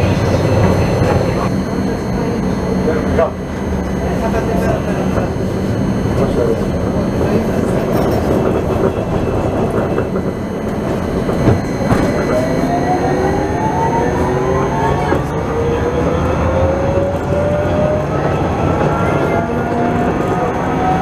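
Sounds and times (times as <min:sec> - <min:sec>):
electric motors whining: 0:00.0 - 0:21.0
tram wheels rumbling: 0:00.0 - 0:21.0.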